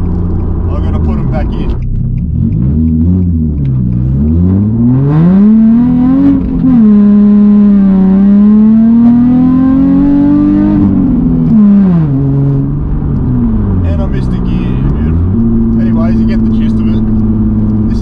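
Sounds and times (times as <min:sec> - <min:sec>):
car engine revving through loud exhaust: 0:00.0 - 0:18.0.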